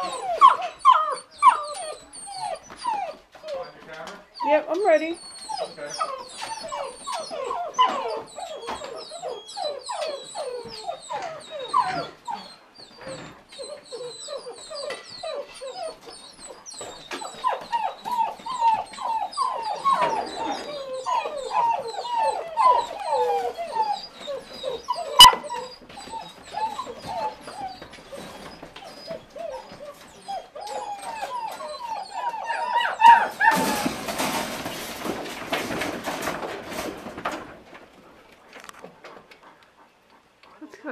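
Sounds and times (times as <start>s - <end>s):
puppies whining and yipping: 0.0s - 37.8s.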